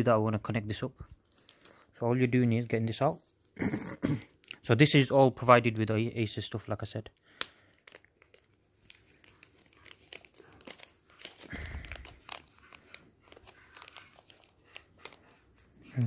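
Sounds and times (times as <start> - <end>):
plastic bag crinkling: 0.6 - 3.6, 4.3 - 16.0.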